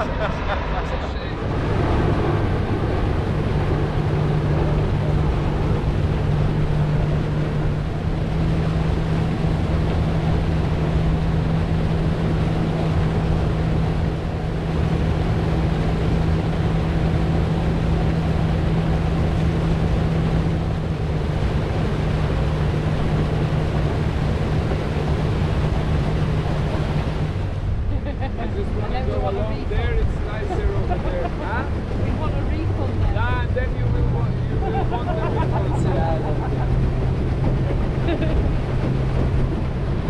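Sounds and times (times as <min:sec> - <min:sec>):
boat engine droning: 0:00.0 - 0:40.0
water rushing: 0:00.0 - 0:40.0
wind: 0:00.0 - 0:40.0.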